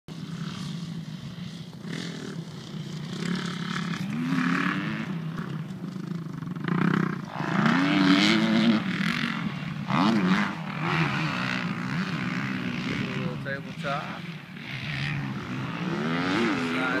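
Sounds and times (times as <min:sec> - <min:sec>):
dirt bike engine revving: 0:00.1 - 0:17.0.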